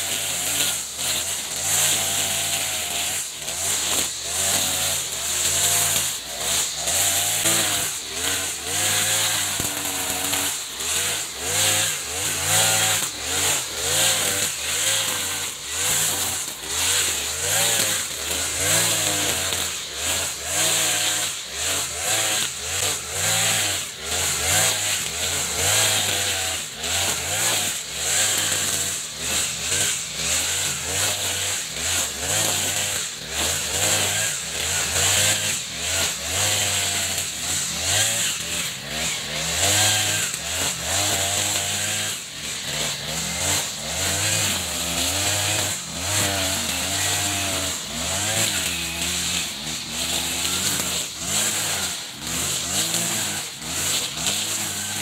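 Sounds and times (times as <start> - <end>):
brush cutter engine at high throttle: 0.0 - 55.0.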